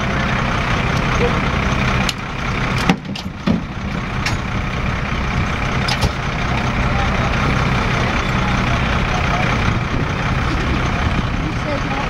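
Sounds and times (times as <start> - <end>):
engine low drone: 0.0 - 12.0.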